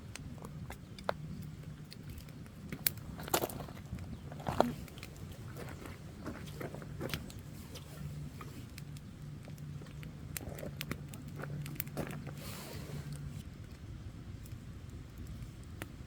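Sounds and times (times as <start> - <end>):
campfire crackling and popping: 0.0 - 16.0
low steady hum: 0.0 - 16.0.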